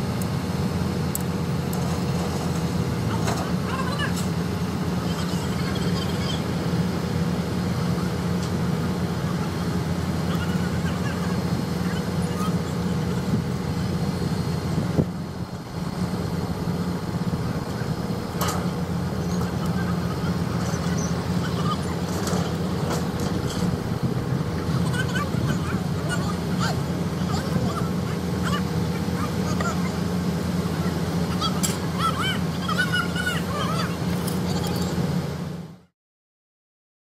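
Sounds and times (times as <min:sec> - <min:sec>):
diesel engine running under load: 0:00.0 - 0:35.9.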